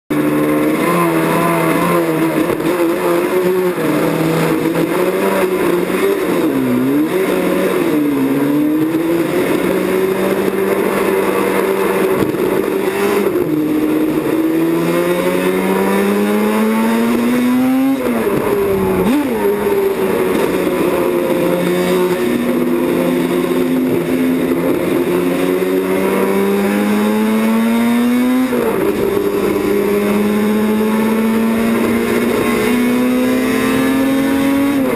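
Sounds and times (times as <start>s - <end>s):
racing motorcycle engine: 0.1s - 34.9s.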